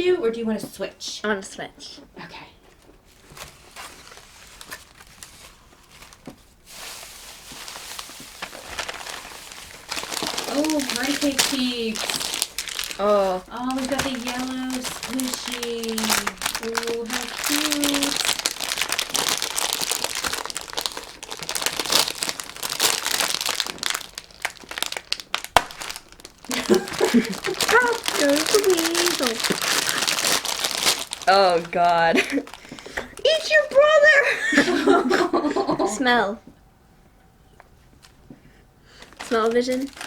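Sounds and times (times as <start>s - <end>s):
rustling and crinkling of basket grass: 2.7s - 34.1s, 39.0s - 40.0s.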